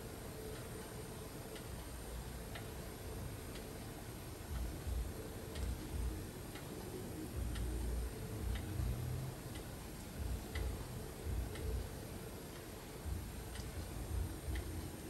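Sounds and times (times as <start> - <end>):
faint even ticking: 0.0 - 15.0
low room rumble: 0.0 - 15.0.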